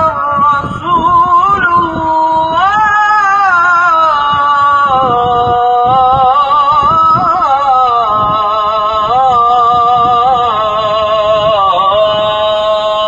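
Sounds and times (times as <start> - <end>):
man chanting call to prayer: 0.0 - 13.0.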